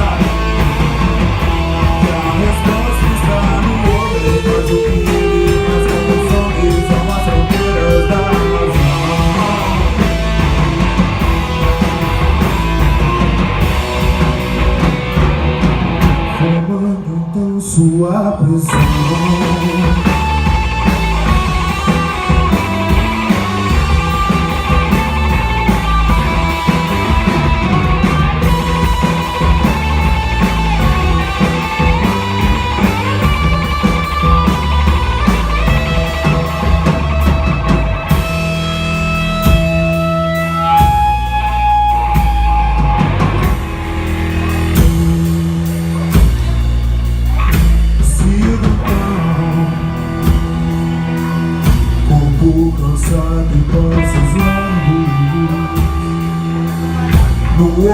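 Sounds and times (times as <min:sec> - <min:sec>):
guitar melody: 0:00.0 - 0:16.9, 0:18.7 - 0:57.9
drum kit: 0:00.0 - 0:17.1, 0:18.6 - 0:57.9
bass guitar: 0:00.0 - 0:57.9.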